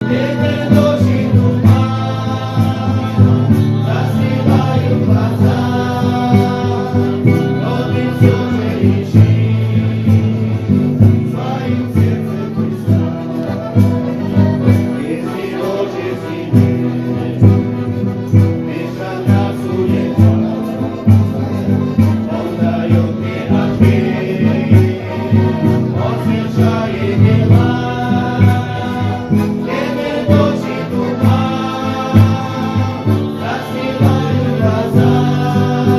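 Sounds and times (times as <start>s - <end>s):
instrumental accompaniment with beat: 0.0s - 35.9s
voices singing together: 0.0s - 35.9s.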